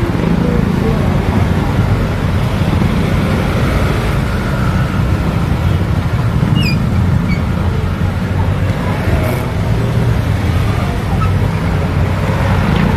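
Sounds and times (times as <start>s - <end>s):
traffic noise: 0.0s - 12.9s.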